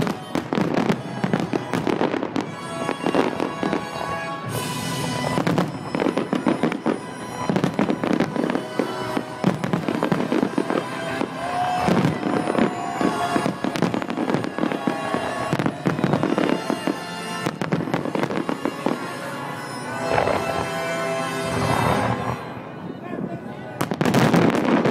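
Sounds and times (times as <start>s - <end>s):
fireworks bangs and crackling: 0.0s - 22.5s, 23.8s - 24.9s
music playing: 0.0s - 24.9s.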